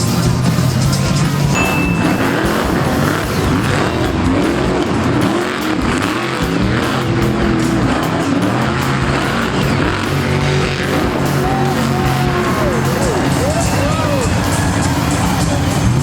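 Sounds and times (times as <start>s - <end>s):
loud arena music: 0.0s - 16.0s
monster truck engine revving: 0.0s - 16.0s.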